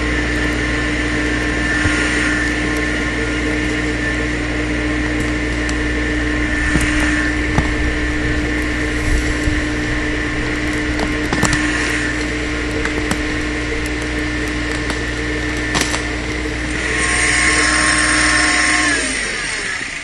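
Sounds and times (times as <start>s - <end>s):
tractor engine running under load: 0.0s - 20.0s
roots cracking: 1.7s - 18.9s.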